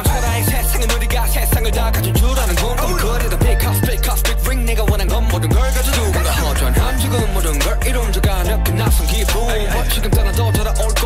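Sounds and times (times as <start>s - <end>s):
rapping over a hip hop beat: 0.0s - 11.0s.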